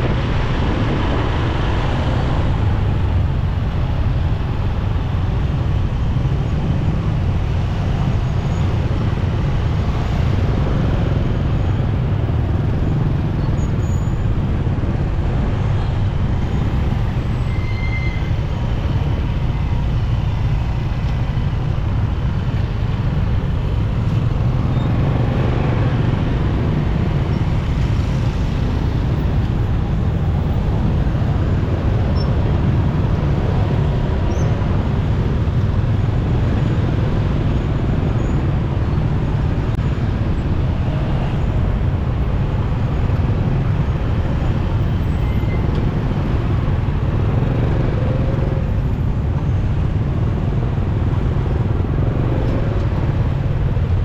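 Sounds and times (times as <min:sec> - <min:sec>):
motorcycle engine and road noise: 0:00.0 - 0:54.0.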